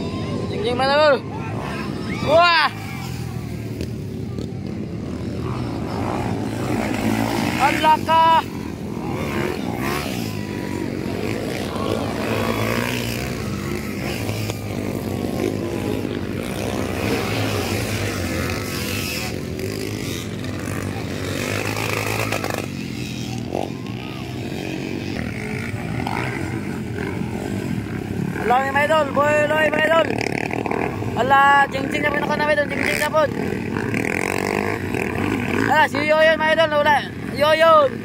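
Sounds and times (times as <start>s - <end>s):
dirt bike engines droning: 0.0s - 38.0s.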